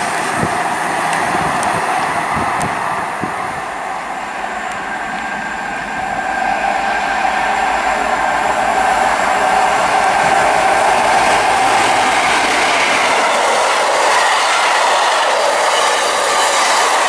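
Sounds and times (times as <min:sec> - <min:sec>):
diesel locomotive engine: 0:00.0 - 0:17.0
train wheels on rails: 0:00.0 - 0:17.0.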